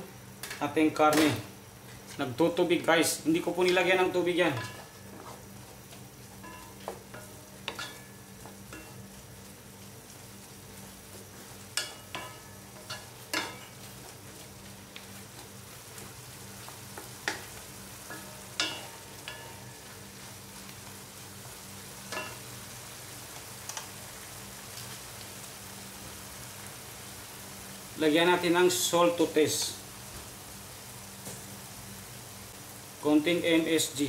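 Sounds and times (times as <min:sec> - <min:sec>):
meat sizzling in a wok: 0:00.0 - 0:34.0.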